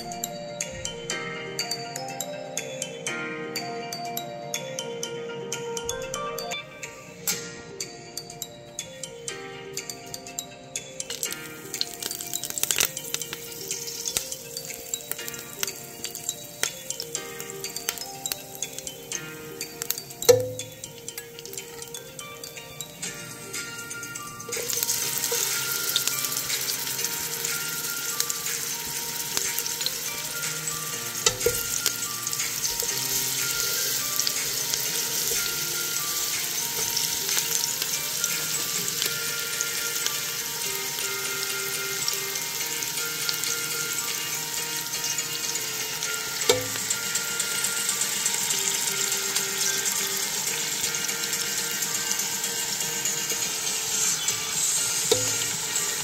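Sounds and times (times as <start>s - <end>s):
onions sizzling in hot oil: 11.1s - 56.0s.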